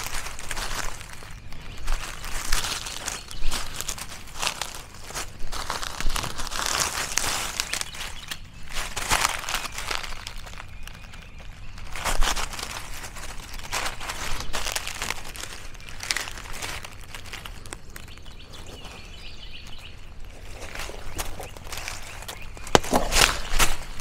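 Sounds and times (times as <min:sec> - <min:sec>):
footsteps crunching dry leaves: 0:00.0 - 0:24.0.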